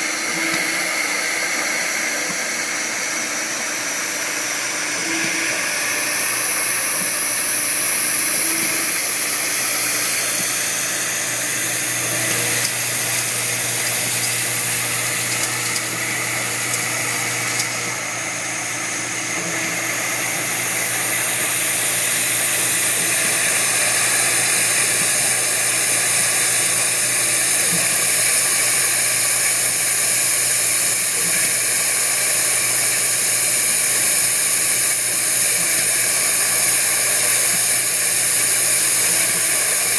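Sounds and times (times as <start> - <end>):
vibratory feeder humming: 0.0 - 39.9
compressed air hissing: 4.6 - 17.8, 18.7 - 39.9.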